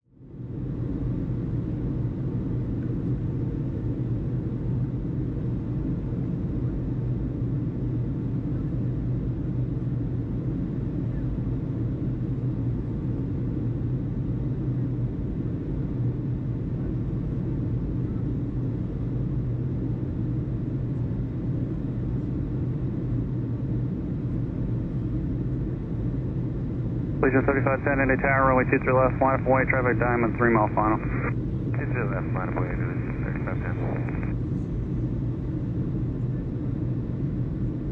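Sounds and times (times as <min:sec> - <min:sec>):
aircraft engine rumble: 0:00.2 - 0:37.9.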